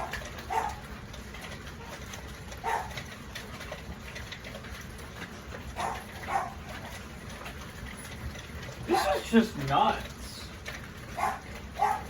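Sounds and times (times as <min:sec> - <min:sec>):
hail pattering: 0:00.0 - 0:12.0.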